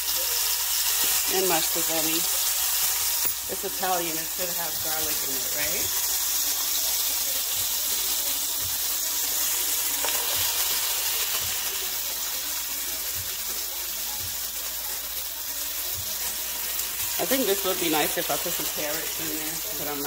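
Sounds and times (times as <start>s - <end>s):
garlic sizzling in oil: 0.0s - 20.0s.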